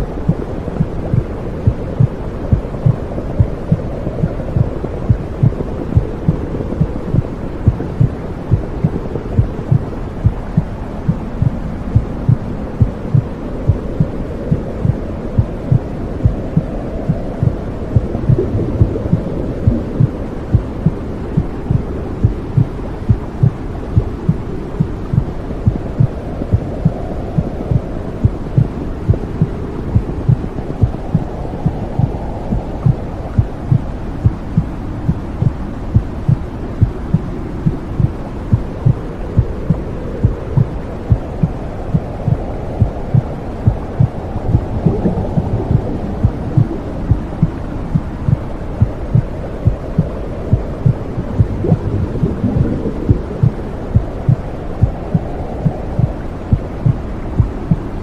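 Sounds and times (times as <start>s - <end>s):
low whooshing rumble: 0.0s - 58.0s
heartbeat thumping: 0.2s - 57.9s.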